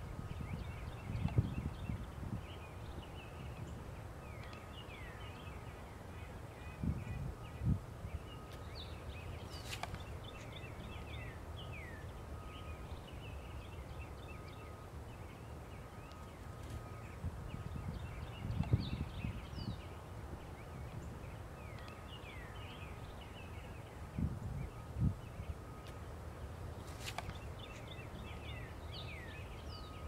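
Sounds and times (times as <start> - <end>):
small birds chirping: 0.3 - 30.0.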